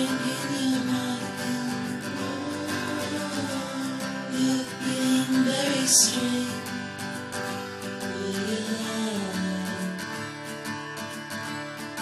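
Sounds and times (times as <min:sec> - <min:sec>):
acoustic guitar folk song: 0:00.0 - 0:12.0.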